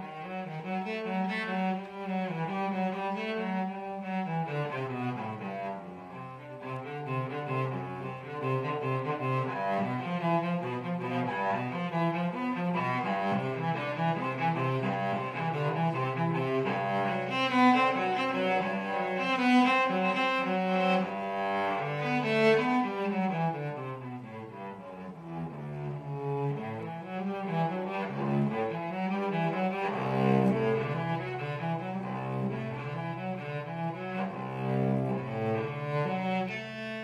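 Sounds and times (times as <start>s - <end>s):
bowed cello melody: 0.0s - 37.0s.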